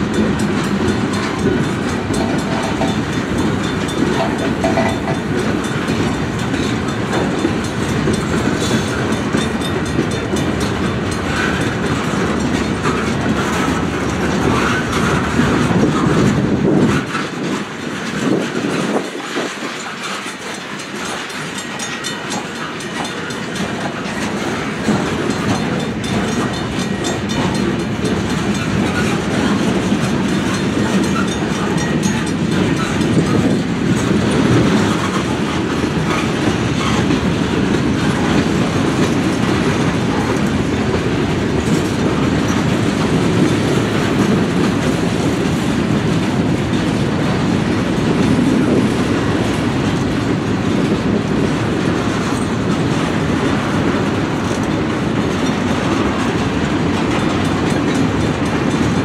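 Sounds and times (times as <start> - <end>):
freight train rolling past: 0.0 - 59.0
wheels clacking over rail joints: 0.0 - 59.0.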